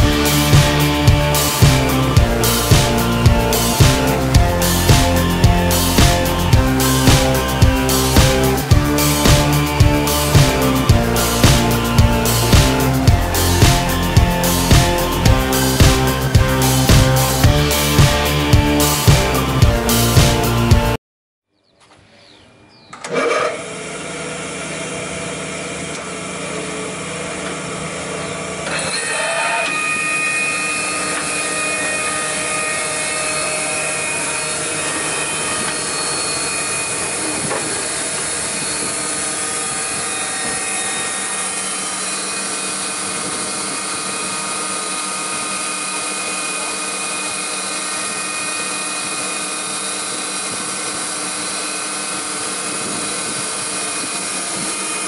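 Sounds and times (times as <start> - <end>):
panel saw motor running: 0.0 - 21.0, 23.0 - 55.0.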